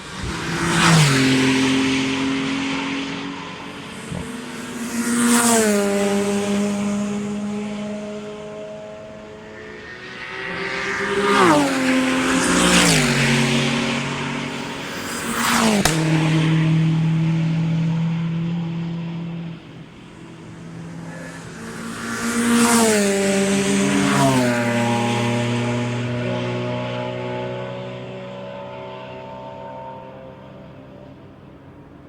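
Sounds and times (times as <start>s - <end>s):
race car engines running: 0.0s - 32.0s
race cars passing at speed: 0.0s - 32.0s.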